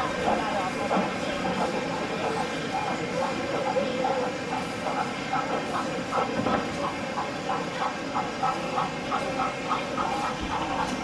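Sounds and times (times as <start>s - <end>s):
model steam locomotive chuffing: 0.0s - 11.0s
steady background hum: 0.0s - 11.0s.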